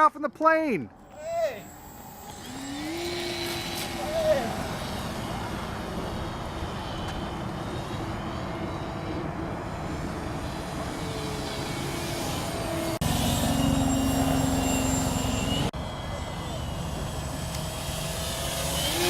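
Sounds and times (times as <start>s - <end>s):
model airplane motor and propeller drone: 0.9s - 19.0s
wind noise: 1.1s - 19.0s.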